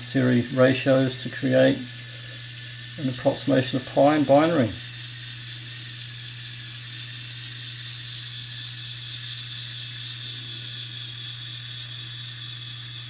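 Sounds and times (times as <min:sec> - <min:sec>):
gear train whirring: 0:00.0 - 0:13.0.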